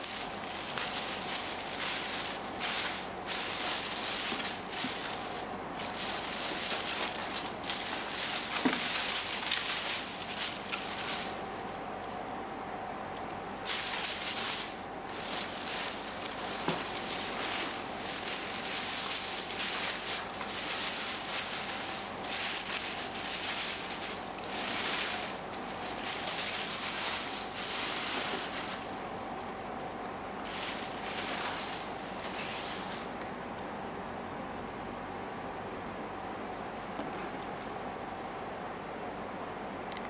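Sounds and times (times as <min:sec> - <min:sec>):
plastic and foam rustling: 0:00.0 - 0:33.2.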